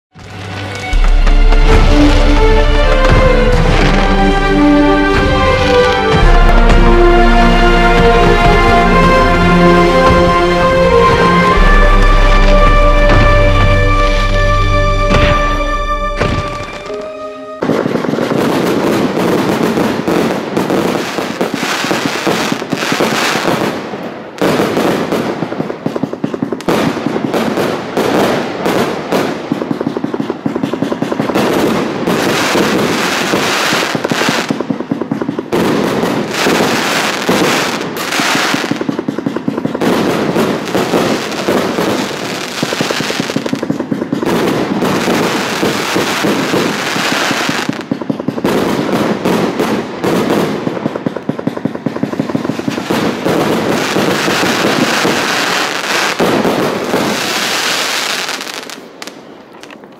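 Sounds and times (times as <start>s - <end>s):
fireworks launches and bursts: 0.2s - 59.9s.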